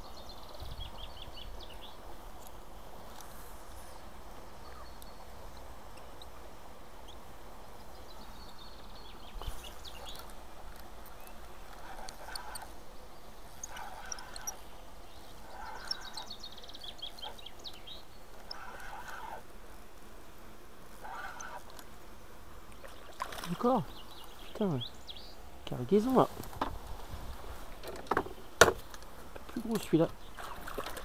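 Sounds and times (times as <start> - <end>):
birds chirping: 0.0 - 31.0
steady outdoor hiss: 0.0 - 31.0.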